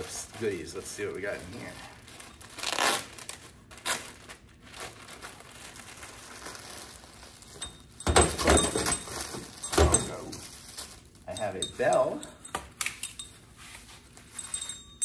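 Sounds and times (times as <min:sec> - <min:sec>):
plastic bag crinkling: 0:00.0 - 0:12.5.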